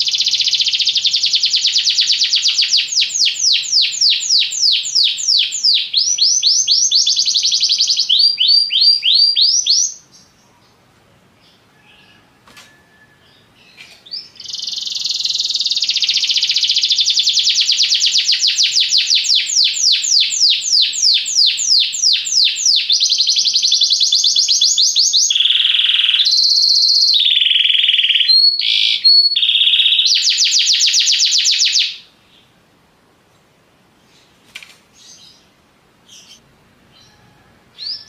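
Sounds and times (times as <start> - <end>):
canary singing: 0.0 - 10.8, 11.4 - 32.5, 35.0 - 38.0.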